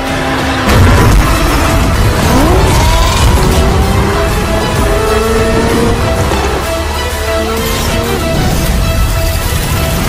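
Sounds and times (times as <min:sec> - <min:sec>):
loud music soundtrack: 0:00.0 - 0:10.0.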